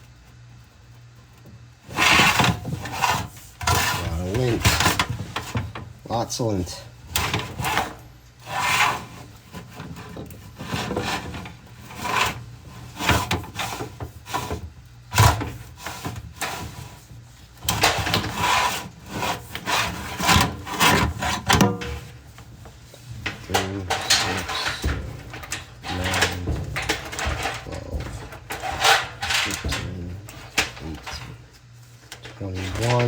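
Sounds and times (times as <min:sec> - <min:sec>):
cable scraping inside vent pipe: 0:00.0 - 0:33.0.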